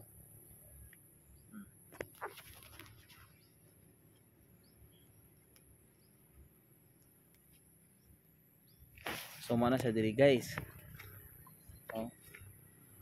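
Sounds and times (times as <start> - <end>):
faint bird chirps: 0.0 - 9.0, 10.4 - 13.0.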